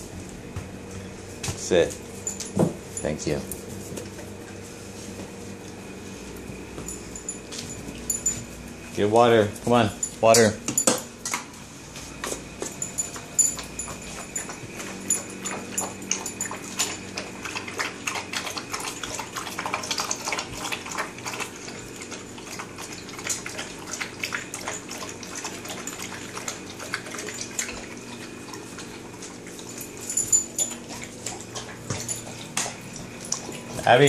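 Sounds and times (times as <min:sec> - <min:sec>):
dogs eating from metal bowls: 0:00.9 - 0:04.2, 0:06.2 - 0:34.0.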